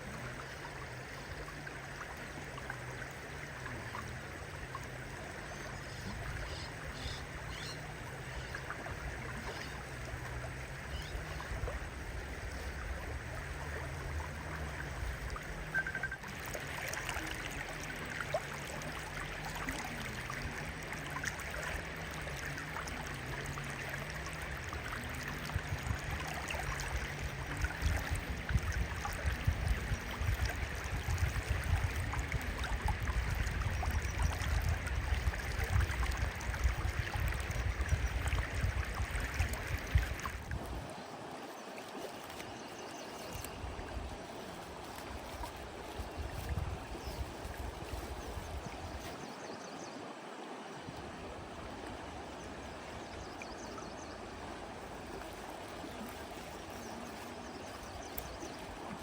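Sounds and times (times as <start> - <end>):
running gurgling water: 0.0 - 59.0.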